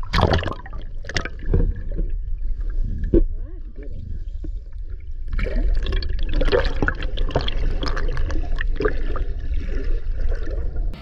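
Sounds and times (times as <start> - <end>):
underwater crackles and pops: 0.0 - 4.6, 5.2 - 10.9
muffled underwater water rush: 0.0 - 11.0.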